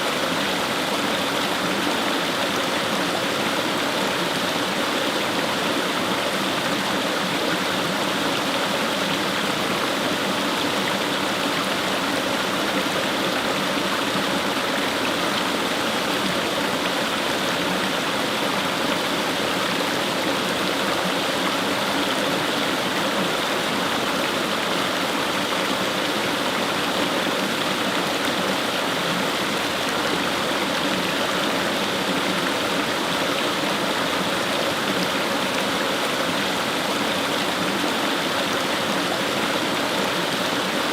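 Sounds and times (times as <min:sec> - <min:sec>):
stream rushing over stones: 0:00.0 - 0:40.9.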